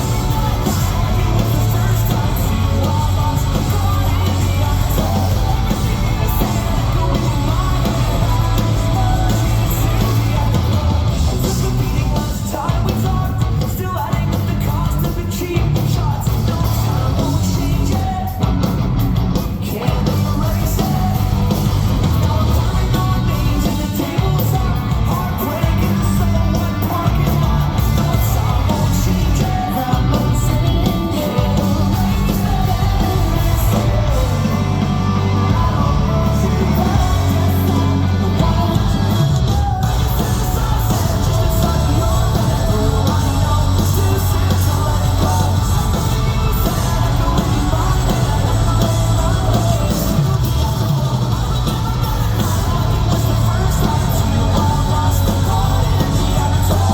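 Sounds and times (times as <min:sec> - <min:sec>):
live rock band playing: 0:00.0 - 0:56.9
singer singing and yelling: 0:00.0 - 0:56.9.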